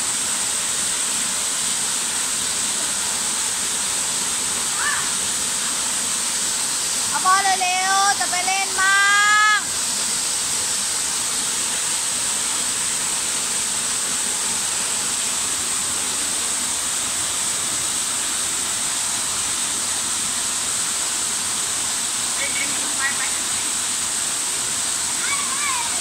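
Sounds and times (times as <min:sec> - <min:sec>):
water rushing over stone: 0:00.0 - 0:26.0.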